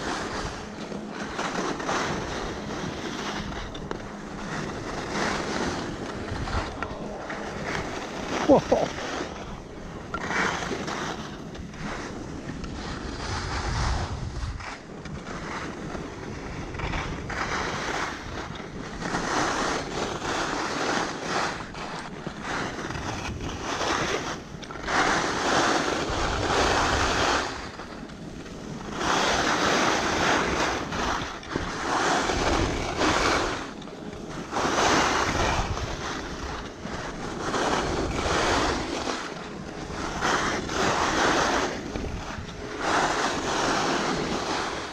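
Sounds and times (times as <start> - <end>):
skis scraping over snow: 0.0 - 44.9
wind on microphone: 0.0 - 44.9.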